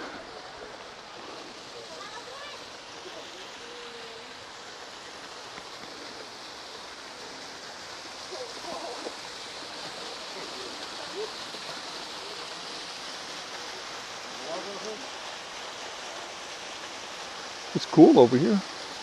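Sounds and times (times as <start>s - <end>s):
faint distant voices: 0.0s - 18.6s
waterfall rushing: 0.0s - 19.0s.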